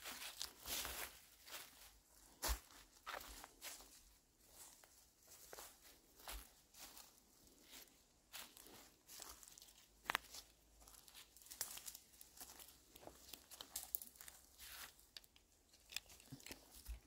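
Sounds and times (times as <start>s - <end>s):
footsteps crunching through leaf litter: 0.0s - 15.0s.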